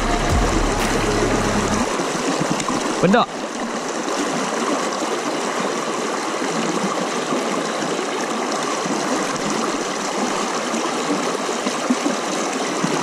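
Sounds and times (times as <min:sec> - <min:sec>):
river rushing over rocks: 0:00.0 - 0:12.8.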